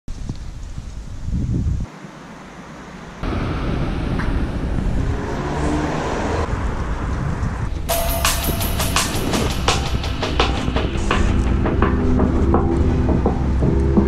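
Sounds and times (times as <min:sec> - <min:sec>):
passing cars rumbling: 0:01.8 - 0:08.0, 0:08.8 - 0:14.0.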